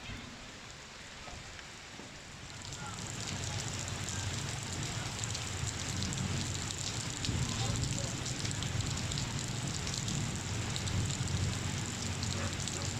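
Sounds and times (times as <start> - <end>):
heavy rain falling: 0.0 - 12.9.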